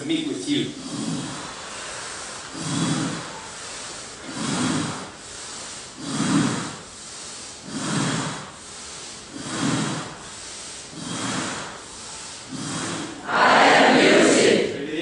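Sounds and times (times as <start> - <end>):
man breathing hard into a microphone: 0.7 - 13.2.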